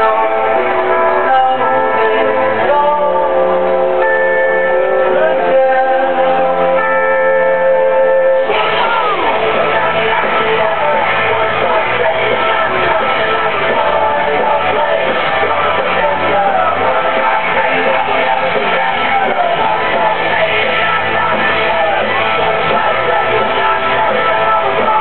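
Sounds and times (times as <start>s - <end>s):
music with singing and guitar: 0.0s - 25.0s.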